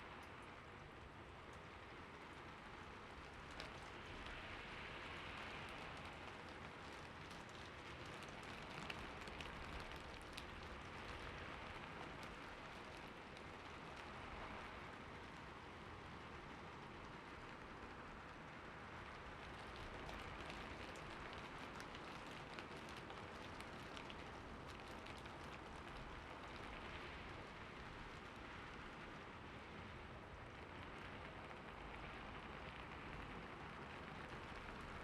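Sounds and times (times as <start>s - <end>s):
raindrops pattering close: 0.0s - 35.0s
steady rain hiss: 0.0s - 35.0s.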